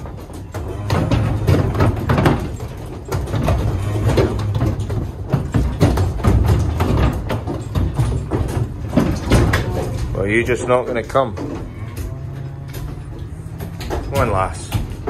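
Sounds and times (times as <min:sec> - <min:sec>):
hooves knocking on wooden floor: 0:00.0 - 0:15.0.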